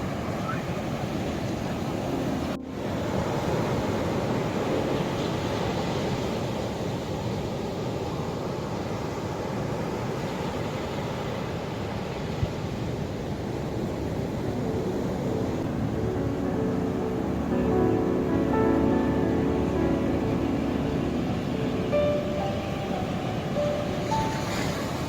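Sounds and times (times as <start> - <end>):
ocean surf washing in: 0.0 - 25.0.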